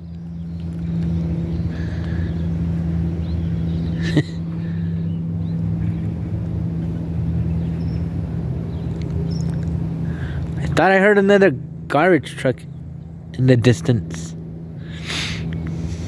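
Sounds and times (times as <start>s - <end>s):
vehicle engine running steadily: 0.0s - 16.0s.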